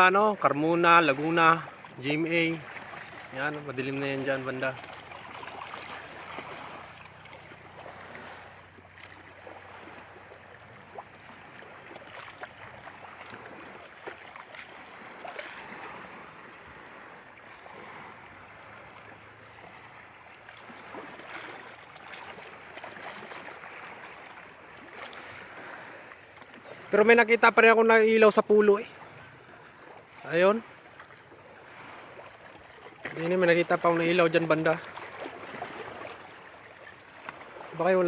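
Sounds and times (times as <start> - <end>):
water lapping at shore: 0.0 - 38.0.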